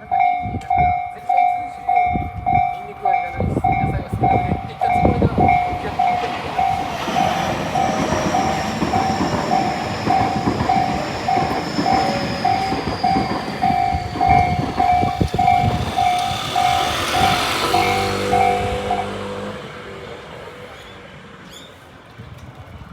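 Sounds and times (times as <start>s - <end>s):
train wheels clattering: 0.0s - 19.7s
level crossing warning bell: 0.0s - 20.8s
high train whine: 0.0s - 22.9s.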